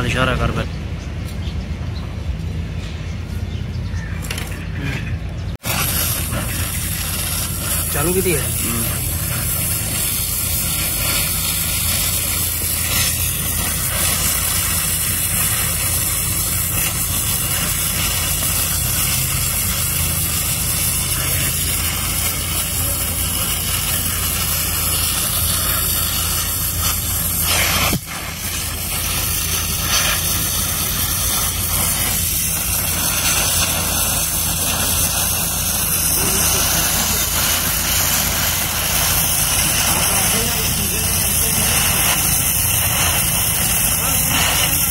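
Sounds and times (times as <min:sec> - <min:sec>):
welding torch flame hissing: 0:04.2 - 0:44.9.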